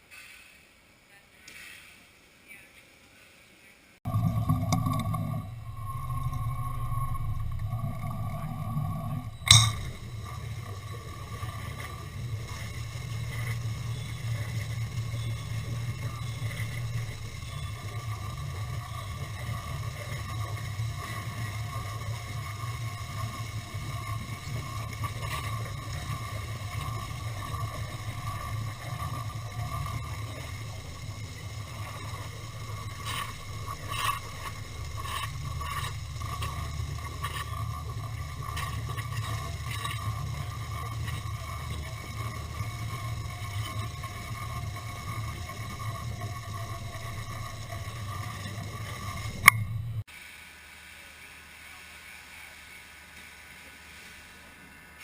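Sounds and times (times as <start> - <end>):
faint steady tone: 3.6 - 55.0
low mechanical hum: 3.6 - 55.0.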